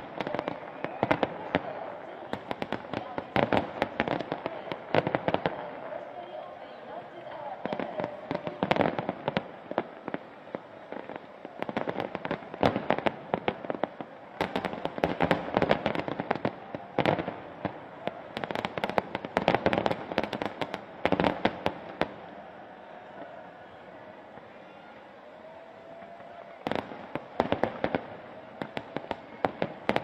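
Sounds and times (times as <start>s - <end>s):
fireworks popping and crackling: 0.0s - 30.0s.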